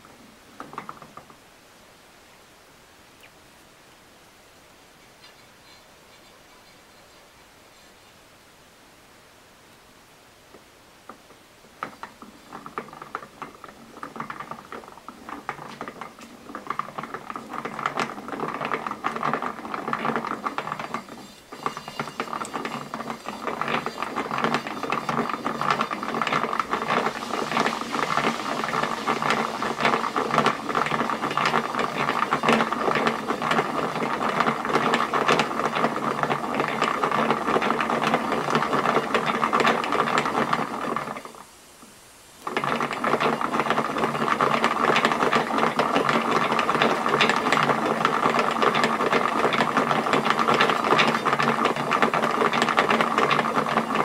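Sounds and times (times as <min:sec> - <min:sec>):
wooden yarn winder clicking: 0:00.0 - 0:01.4, 0:10.5 - 0:41.5, 0:42.4 - 0:54.0.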